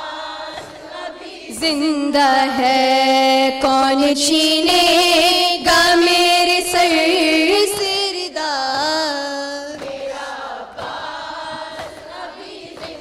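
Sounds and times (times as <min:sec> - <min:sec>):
women chanting a lament together: 0:00.0 - 0:13.0.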